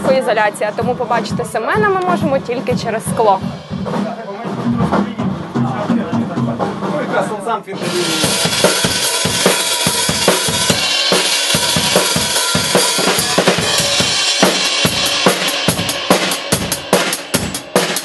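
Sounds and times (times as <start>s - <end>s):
drum kit punk beat: 0.0s - 18.0s.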